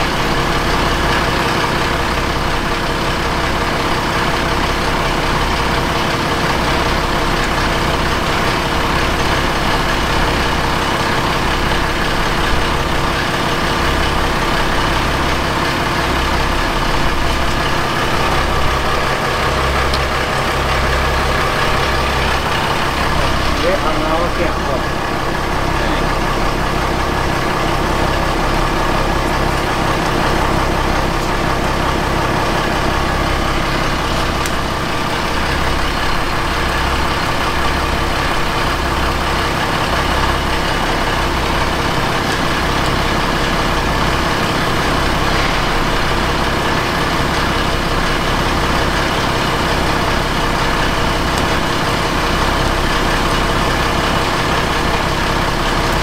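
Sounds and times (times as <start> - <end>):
boat engine running steadily: 0.0 - 56.0.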